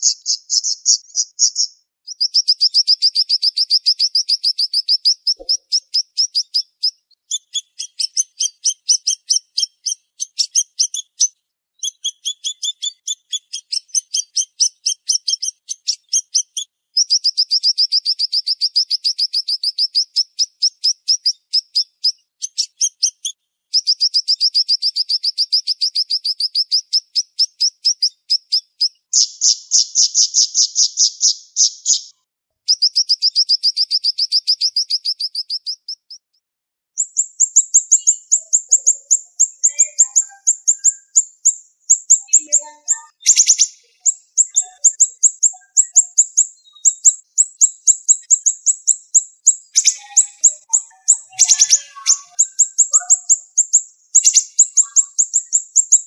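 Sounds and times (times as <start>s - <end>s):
songbird singing fast trills: 0.0s - 36.3s, 37.0s - 56.0s.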